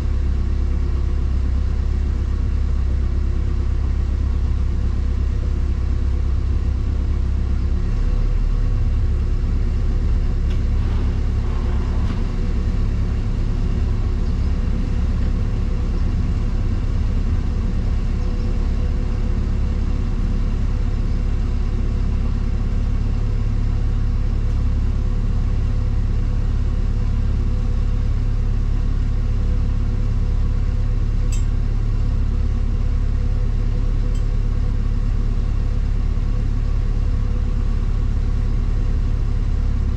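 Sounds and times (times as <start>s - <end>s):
boat diesel engine humming: 0.0s - 39.9s.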